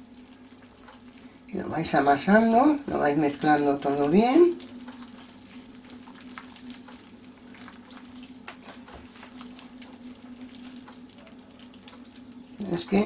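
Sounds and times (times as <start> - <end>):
hands squelching wet dough: 0.0 - 13.0
steady low hum: 0.0 - 13.0.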